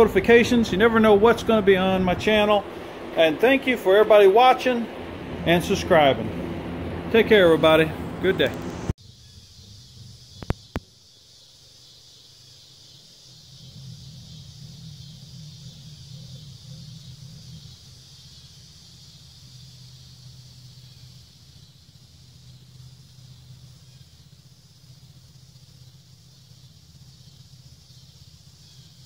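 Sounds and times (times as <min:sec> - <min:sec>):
insects buzzing chorus: 0:00.0 - 0:07.6, 0:09.0 - 0:29.0
low motor hum: 0:00.0 - 0:11.1, 0:11.9 - 0:29.0.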